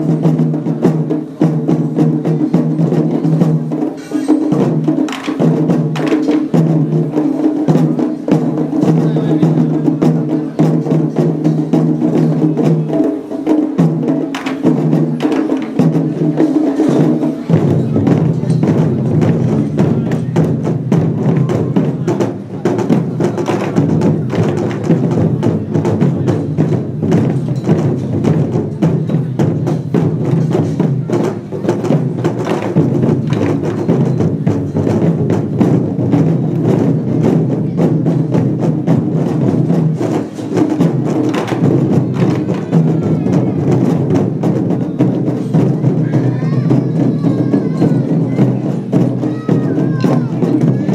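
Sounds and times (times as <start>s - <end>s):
drum gongs and cymbals playing: 0.0s - 50.9s.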